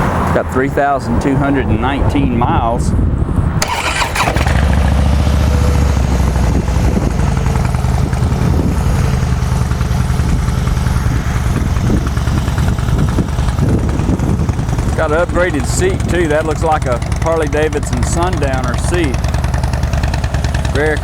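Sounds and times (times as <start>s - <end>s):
motorcycle engine idling: 3.6s - 21.0s.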